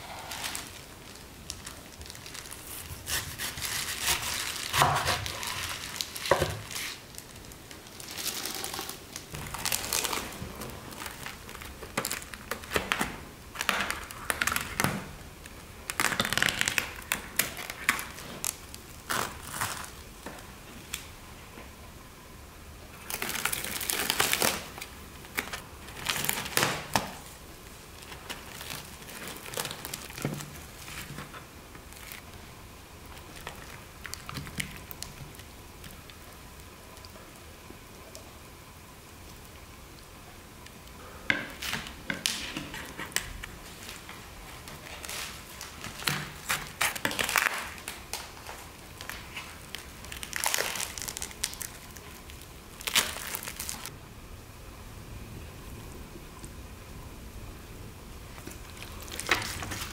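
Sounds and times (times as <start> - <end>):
cling film crinkling and tearing: 0.0 - 21.1, 23.0 - 37.1, 41.6 - 53.9, 58.4 - 59.9.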